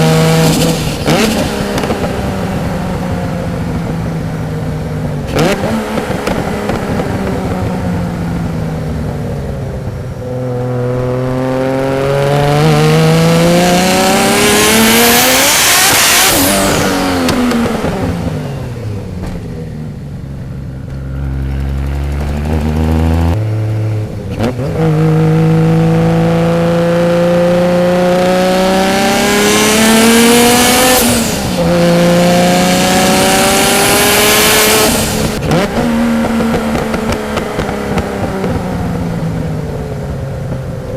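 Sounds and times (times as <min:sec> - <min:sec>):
car accelerating hard: 0:00.0 - 0:03.9, 0:05.2 - 0:08.5, 0:10.3 - 0:19.4, 0:21.1 - 0:40.1.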